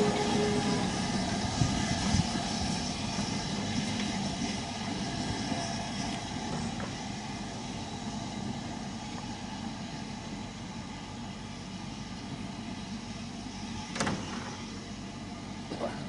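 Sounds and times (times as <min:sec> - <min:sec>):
steam locomotive rumbling: 0:00.0 - 0:16.0.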